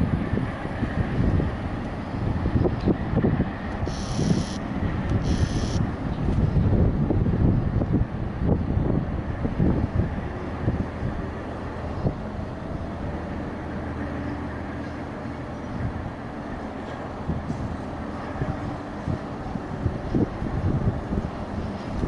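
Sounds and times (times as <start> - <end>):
wind buffeting microphone: 0.0 - 14.1, 15.7 - 22.0
train humming: 0.0 - 22.0.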